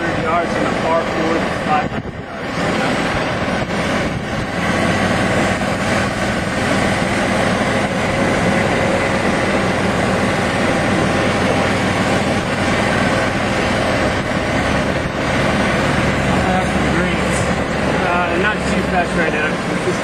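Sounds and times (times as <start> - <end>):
golf cart engine drone: 0.0 - 20.0
rushing noise: 0.0 - 20.0.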